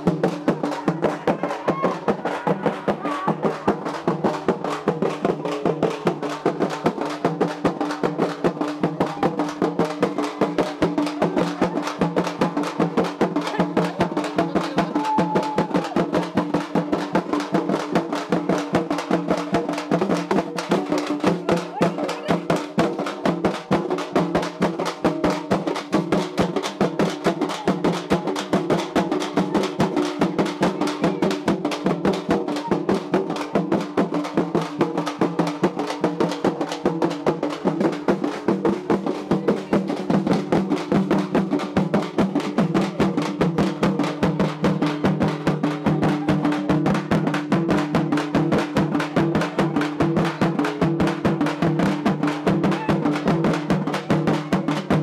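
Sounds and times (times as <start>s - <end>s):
drums beaten rapidly: 0.0s - 55.0s.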